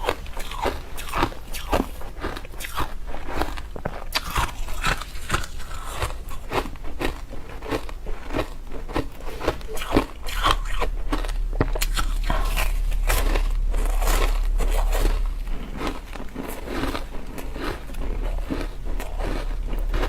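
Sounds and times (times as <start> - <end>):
ice being crunched and chewed: 0.0 - 20.0
low hum: 0.0 - 20.0.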